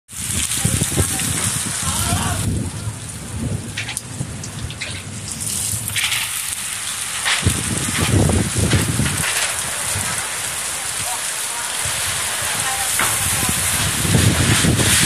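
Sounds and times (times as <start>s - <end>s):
heavy rain on pavement: 0.1s - 15.0s
low rumbling: 0.1s - 15.0s.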